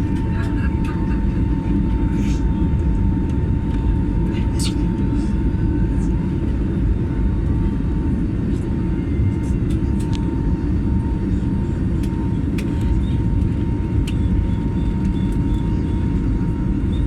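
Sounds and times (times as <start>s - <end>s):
airplane engine rumble: 0.0s - 17.0s.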